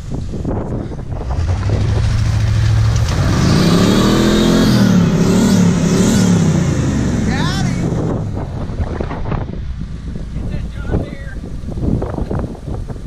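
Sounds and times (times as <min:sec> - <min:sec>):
car engine revving under load: 0:00.4 - 0:13.0.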